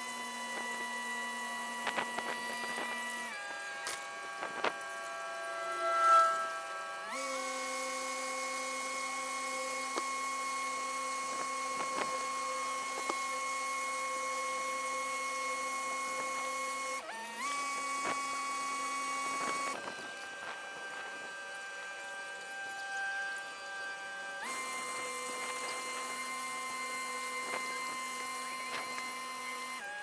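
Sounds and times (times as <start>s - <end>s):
sped-up engine whine: 0.0s - 30.0s.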